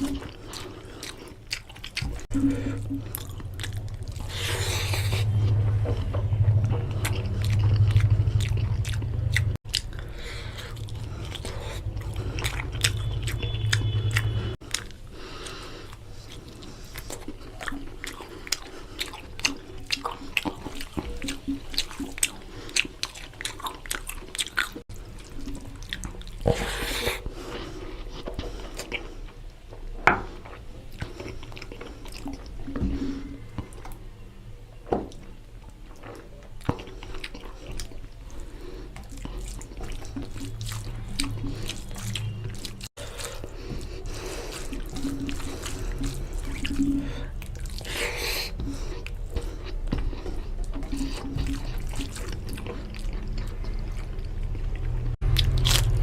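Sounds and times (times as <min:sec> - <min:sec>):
wet chewing and lip smacks: 0:00.0 - 0:27.3, 0:30.3 - 0:34.0, 0:35.1 - 0:56.0
low steady hum: 0:00.0 - 0:56.0.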